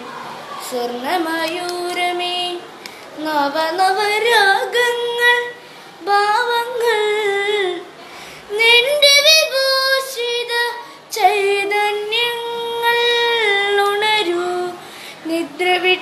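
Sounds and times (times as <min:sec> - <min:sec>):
boy singing into a microphone: 0:00.6 - 0:16.0.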